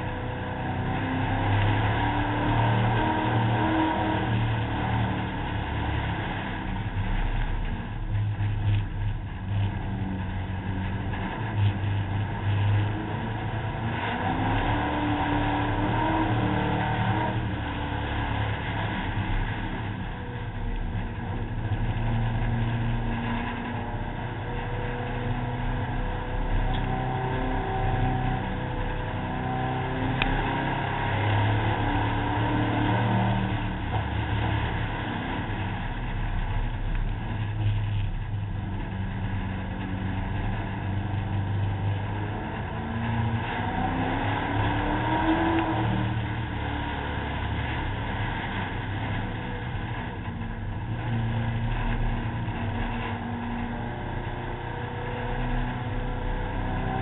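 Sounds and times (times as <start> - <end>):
car engine revving: 0.0 - 57.0
continuous rush of noise: 0.0 - 57.0.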